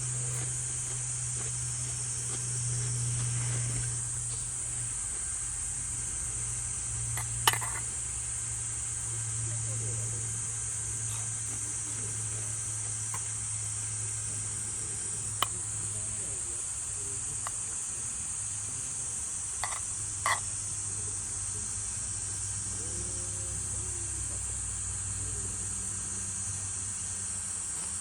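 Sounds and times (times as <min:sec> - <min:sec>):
low even hum: 0:00.0 - 0:27.3
insects chirring: 0:00.0 - 0:28.0.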